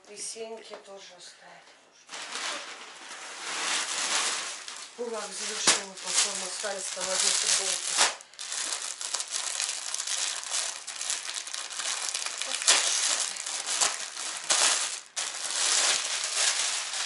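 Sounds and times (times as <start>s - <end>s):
plastic bag crinkling: 2.1s - 17.0s.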